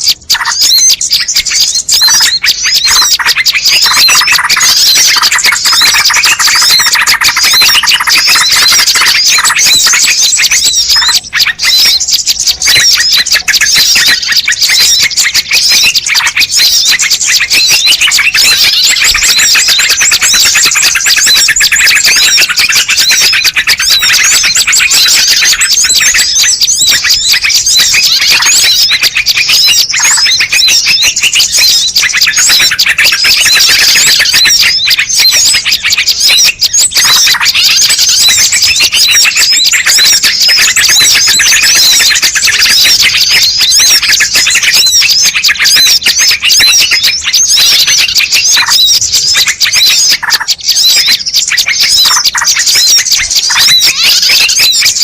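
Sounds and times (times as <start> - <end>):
small birds chirping and twittering: 0.0 - 55.0.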